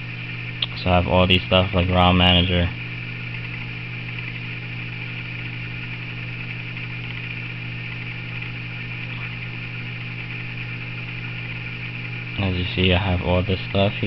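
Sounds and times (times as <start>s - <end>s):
low electrical buzz: 0.0s - 14.0s.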